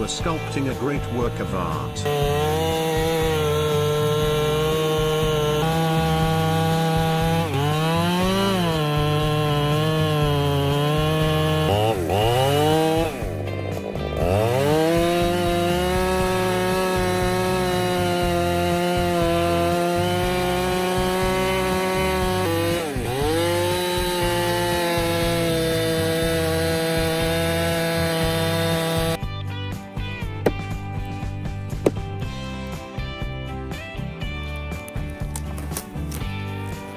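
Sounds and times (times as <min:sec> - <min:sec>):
chainsaw cutting wood: 0:00.0 - 0:29.3, 0:29.9 - 0:36.9.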